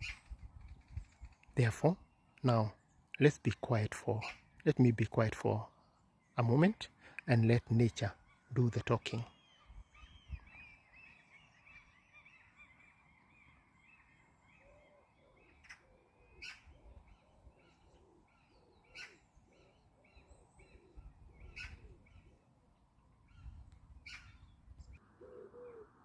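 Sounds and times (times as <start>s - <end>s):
birds chirping: 0.0s - 26.0s
low repeated bird calls: 0.0s - 26.0s.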